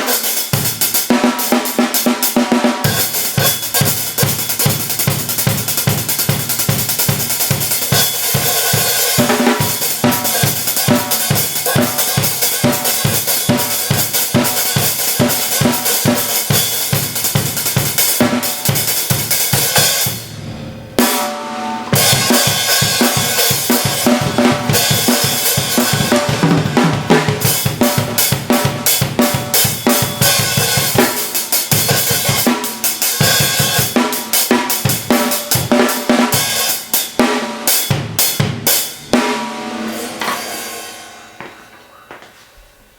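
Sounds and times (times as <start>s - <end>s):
kick and snare drum strokes: 0.0s - 41.1s.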